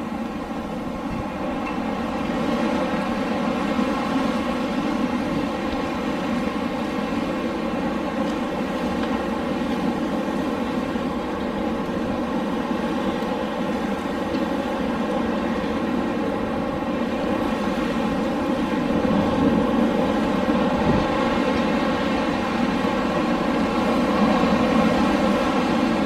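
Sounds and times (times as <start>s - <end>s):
wind blowing: 0.0s - 26.0s.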